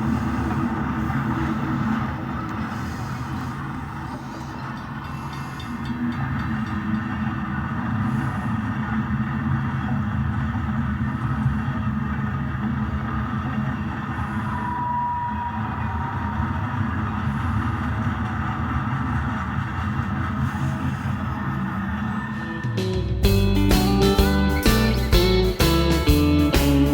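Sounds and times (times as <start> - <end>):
model locomotive engine running: 0.0 - 26.9.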